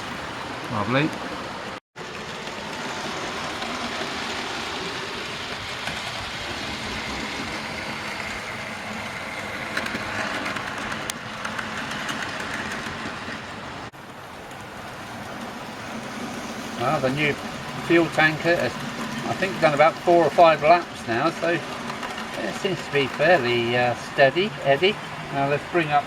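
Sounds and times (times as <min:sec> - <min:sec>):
model train wheels on rails: 0:00.0 - 0:26.0.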